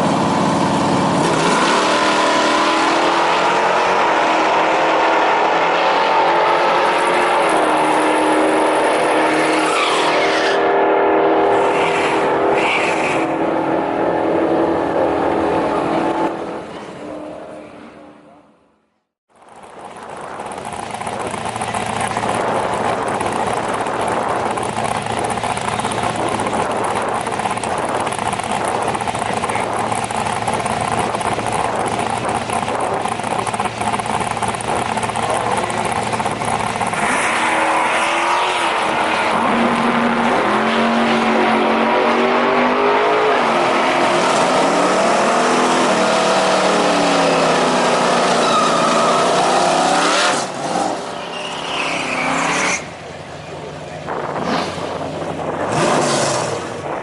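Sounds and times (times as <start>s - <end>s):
drag racing engines: 0.0s - 57.0s.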